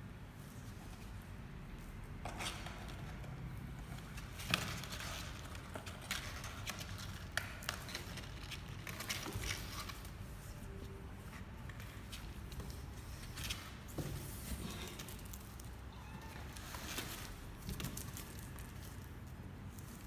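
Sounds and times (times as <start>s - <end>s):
kittens scratching cardboard: 2.2s - 20.0s.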